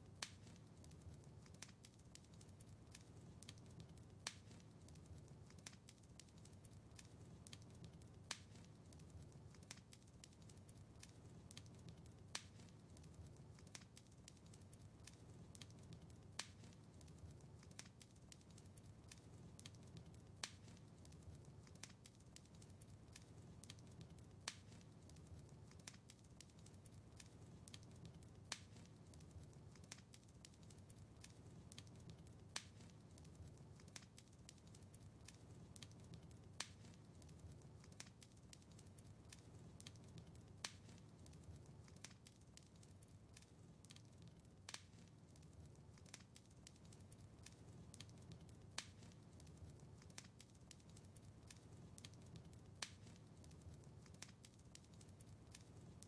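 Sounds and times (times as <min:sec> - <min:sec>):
fire pops and ticks: 0:00.0 - 0:56.0
low rumble of flames: 0:00.0 - 0:56.0
sharp fire snap: 0:00.0 - 0:56.0.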